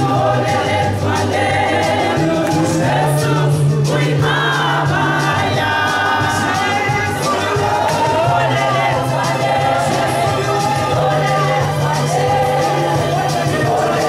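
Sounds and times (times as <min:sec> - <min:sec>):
women singing a hymn in chorus: 0:00.0 - 0:14.0.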